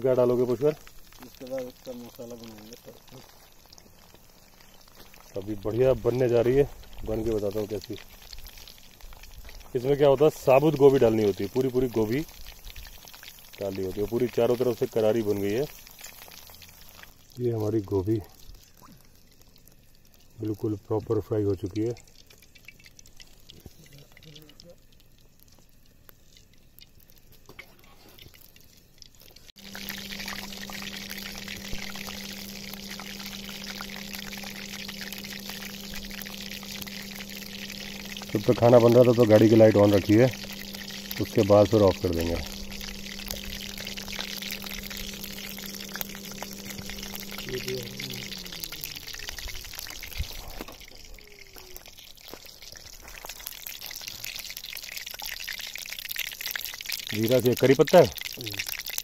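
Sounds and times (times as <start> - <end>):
low steady hum: 0.0 - 58.8
oil frying with hiss and crackles: 0.0 - 59.0.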